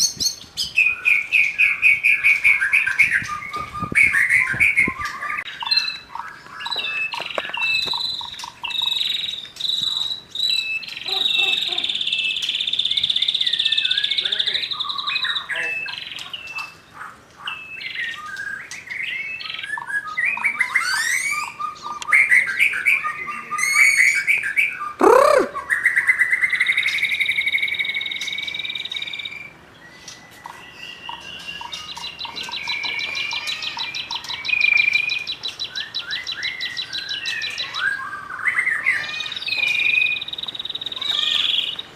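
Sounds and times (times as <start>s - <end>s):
bird singing whistled phrases: 6.6s - 16.8s, 17.5s - 41.9s.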